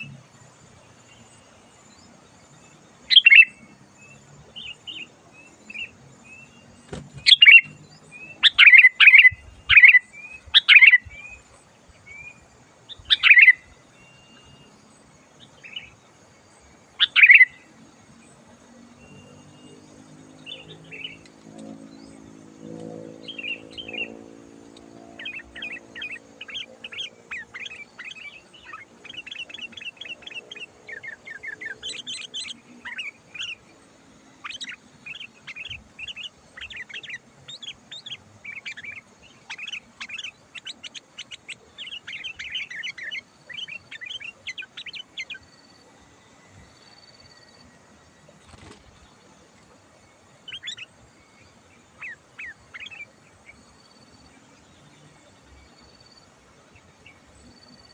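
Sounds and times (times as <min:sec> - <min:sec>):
bird chirping song: 0:00.0 - 0:57.9.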